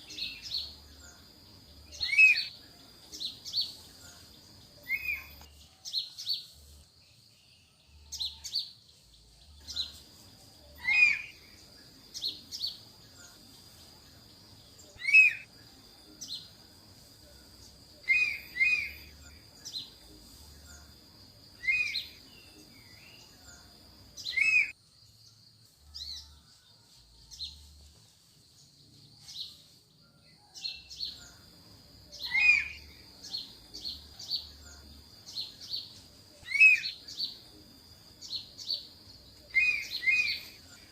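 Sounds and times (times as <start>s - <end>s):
birds chirping: 0.0s - 26.4s, 30.4s - 40.9s.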